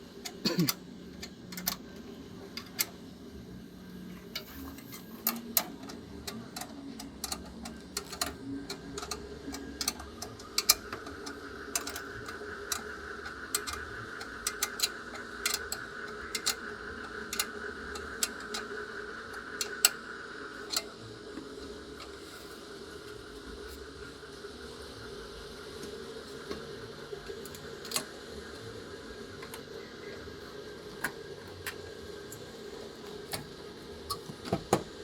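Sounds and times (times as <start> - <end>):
steady hum: 0.0 - 35.0.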